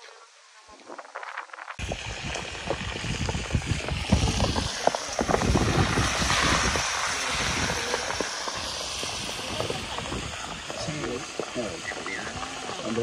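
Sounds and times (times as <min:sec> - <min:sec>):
wind buffeting microphone: 0:00.8 - 0:13.0.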